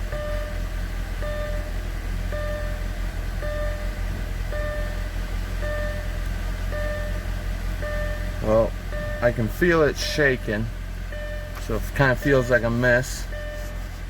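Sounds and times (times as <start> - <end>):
car engine idling roughly: 0.0 - 14.0
three-tone warning chime: 0.1 - 9.5, 11.1 - 13.8.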